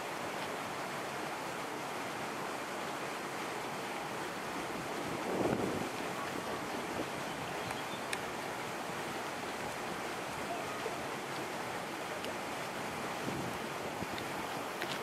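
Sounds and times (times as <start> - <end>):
small lake waves: 0.0 - 15.0
wind: 0.0 - 15.0.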